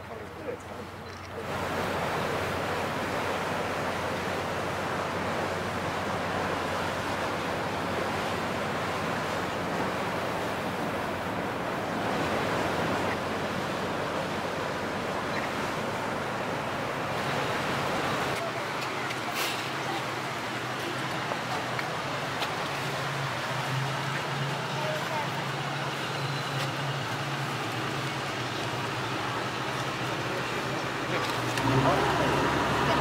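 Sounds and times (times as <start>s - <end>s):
wind and water rushing: 0.0s - 33.0s.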